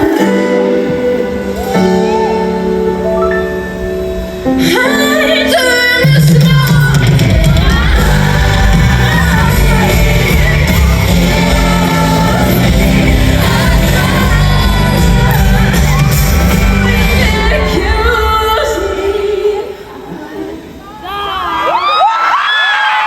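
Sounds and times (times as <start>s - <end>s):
band playing loud: 0.0s - 19.5s
person singing: 0.0s - 20.3s
crowd singing and shouting: 0.0s - 21.0s.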